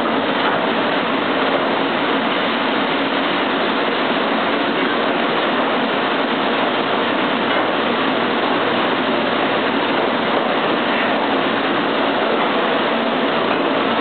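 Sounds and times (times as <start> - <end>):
dishwashing machinery running: 0.0 - 14.0.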